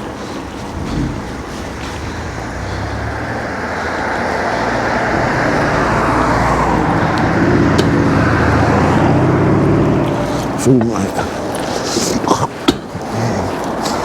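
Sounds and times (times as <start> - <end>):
vehicle engine hum and tyre noise: 0.0 - 14.0.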